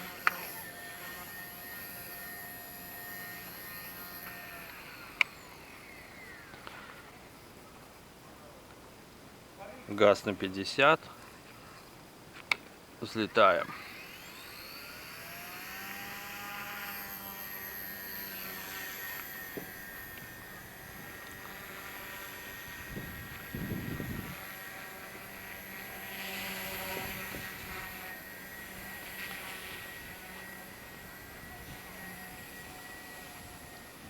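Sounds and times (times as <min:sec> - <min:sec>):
toy helicopter motor whine: 0:00.0 - 0:07.6, 0:13.5 - 0:34.0.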